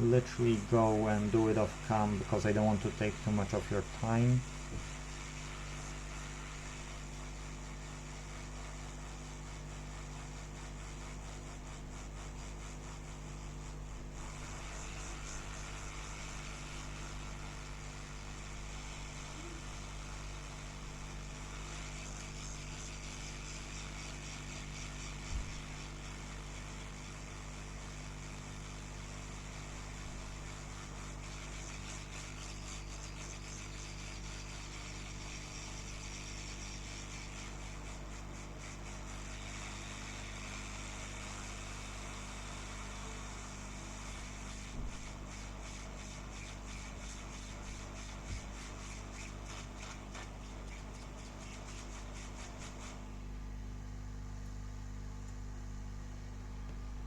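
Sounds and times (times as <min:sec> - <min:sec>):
hot air blower hissing: 0:00.0 - 0:54.4
steady electrical hum: 0:00.0 - 0:57.0.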